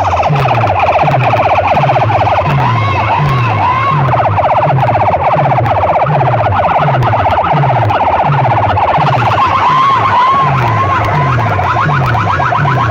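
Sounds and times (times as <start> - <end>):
deep falling bass sweeps: 0.0 - 12.9
rapid repeating electronic chirps: 0.0 - 12.9
wailing siren warble: 0.0 - 12.9.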